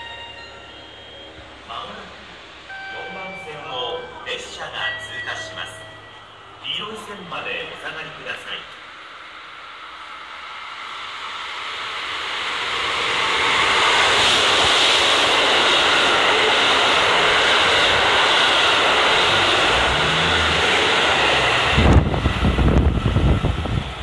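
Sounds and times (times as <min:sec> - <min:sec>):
diesel railcars passing at speed: 0:00.0 - 0:24.0.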